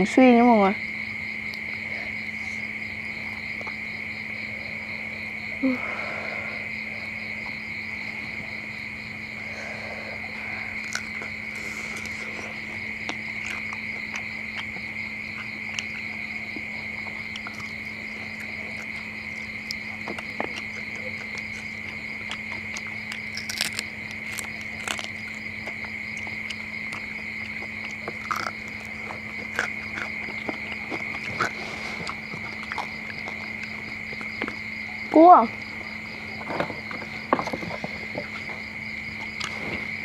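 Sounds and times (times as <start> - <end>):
crickets chirping: 0.0 - 40.0
crunchy chewing: 0.8 - 40.0.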